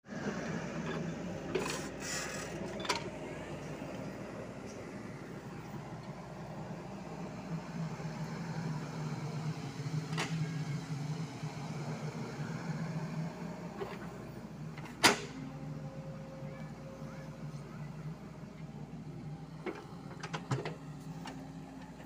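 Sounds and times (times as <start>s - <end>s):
excavator diesel engine running: 0.1s - 22.0s.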